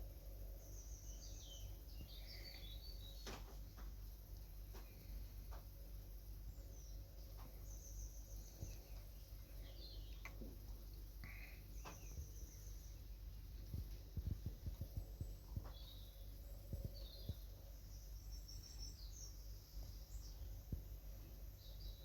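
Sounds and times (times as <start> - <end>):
songbird chirps and trills: 0.0 - 22.0.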